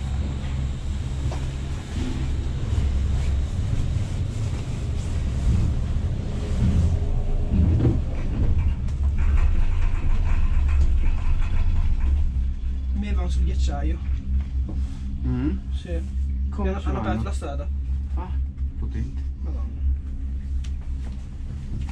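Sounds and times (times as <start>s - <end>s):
gondola cabin rumble: 0.0s - 21.9s
high steady whine: 0.0s - 21.9s.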